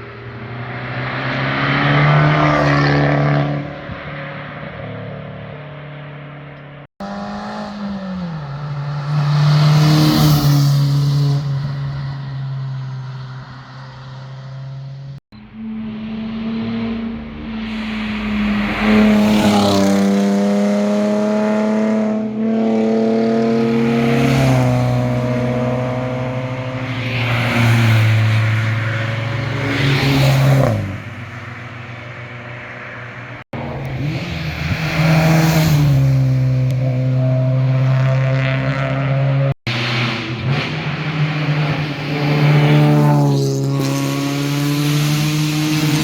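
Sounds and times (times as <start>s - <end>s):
sports cars accelerating past: 0.0s - 6.4s, 7.0s - 46.0s.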